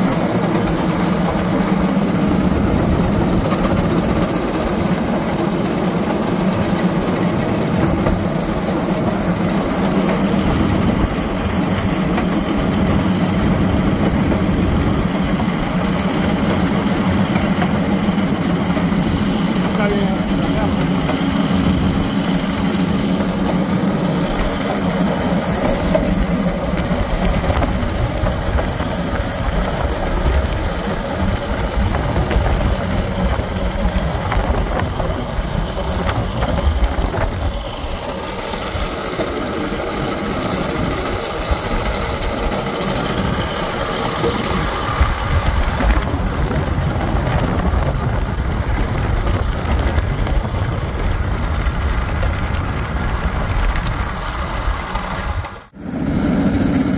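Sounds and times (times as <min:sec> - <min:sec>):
small engine running: 0:00.0 - 0:56.9
steel wheels rattling on rails: 0:00.0 - 0:56.9.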